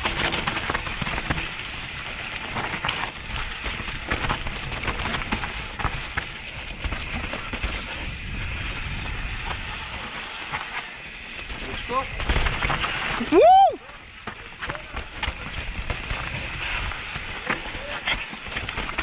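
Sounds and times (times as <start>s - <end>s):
bike clicks and rattles: 0.0s - 19.0s.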